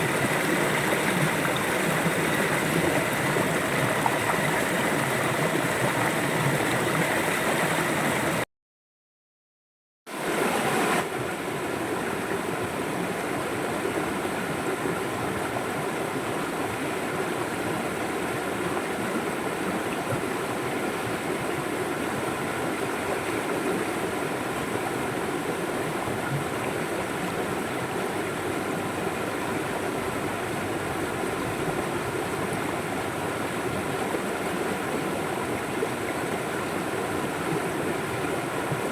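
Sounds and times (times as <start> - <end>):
river water flowing: 0.0 - 8.4, 10.1 - 38.9.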